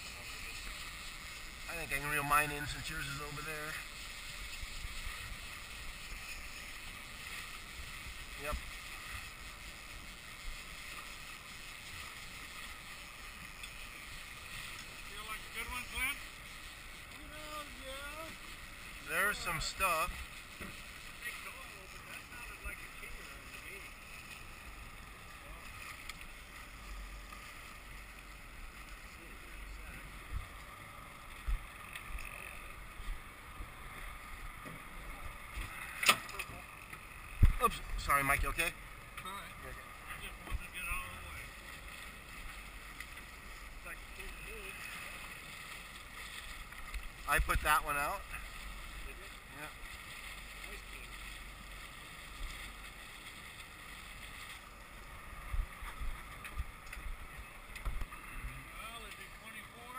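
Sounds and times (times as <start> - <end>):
boat and sea hiss: 0.0 - 59.9.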